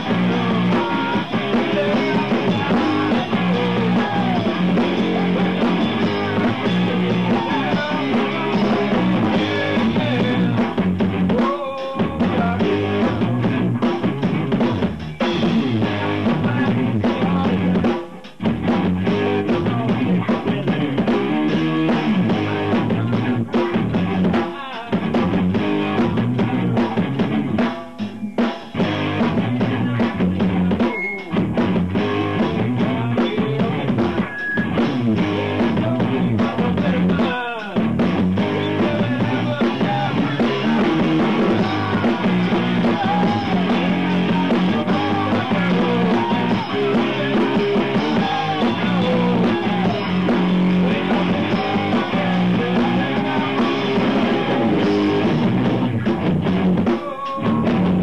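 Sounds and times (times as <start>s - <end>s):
person singing: 0.0s - 14.0s, 15.2s - 27.2s, 29.3s - 56.1s, 56.8s - 58.0s
rock band playing: 0.0s - 58.0s.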